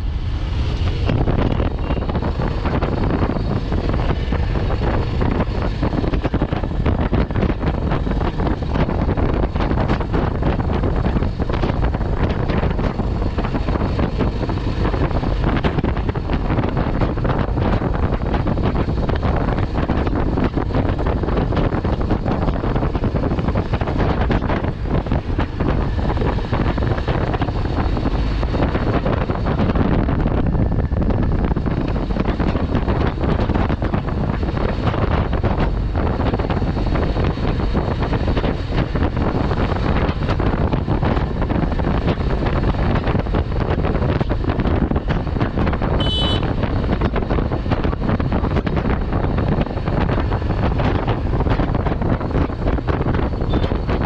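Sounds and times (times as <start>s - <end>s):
motorcycle engine: 0.0s - 54.0s
wind buffeting microphone: 0.0s - 54.0s.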